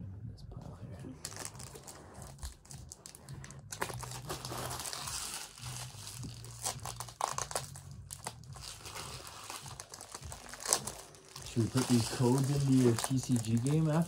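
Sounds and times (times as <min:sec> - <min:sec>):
foil wrapper crinkling and tearing: 0:01.2 - 0:14.0.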